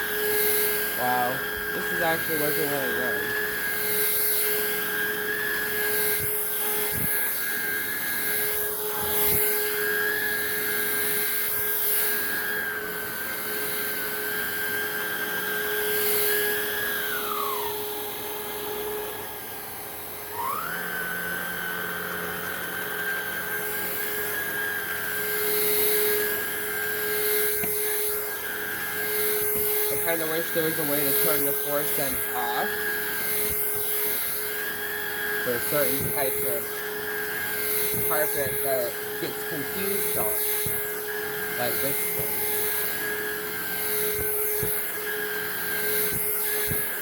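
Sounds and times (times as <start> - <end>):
vacuum cleaner motor whine: 0.0 - 47.0.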